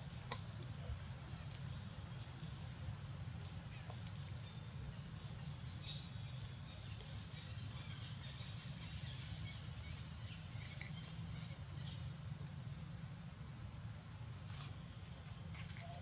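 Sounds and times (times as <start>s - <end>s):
high insect drone: 0.0s - 16.0s
low steady rumble: 0.0s - 16.0s.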